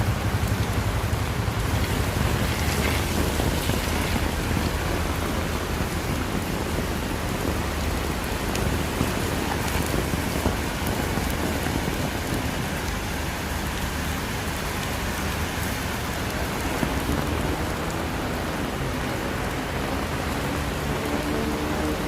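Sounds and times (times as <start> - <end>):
rain splashing on surfaces: 0.0 - 22.0.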